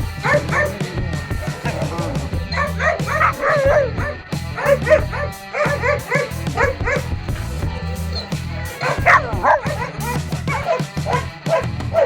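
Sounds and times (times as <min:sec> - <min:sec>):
background music: 0:00.0 - 0:12.0
dog barking rapidly: 0:00.0 - 0:12.0.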